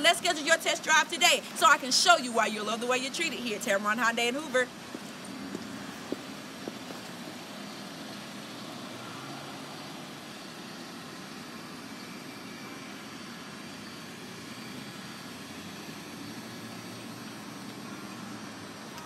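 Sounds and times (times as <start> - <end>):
traffic hum: 0.0 - 19.0.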